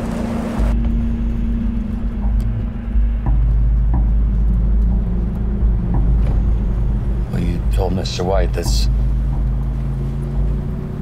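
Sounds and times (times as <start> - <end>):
car driving rumble: 0.0 - 11.0
low hum: 0.0 - 11.0.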